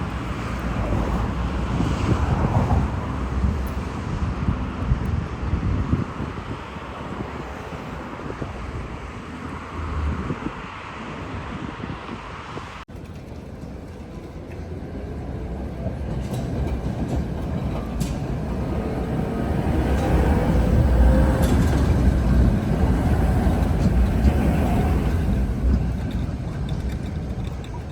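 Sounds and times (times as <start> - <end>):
tram wheels rumbling on rails: 0.0 - 27.9.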